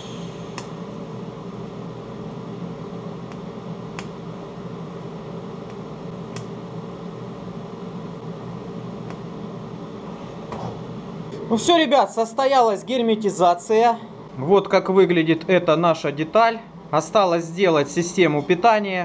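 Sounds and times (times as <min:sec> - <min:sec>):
welding set hum and hiss: 0:00.0 - 0:19.0.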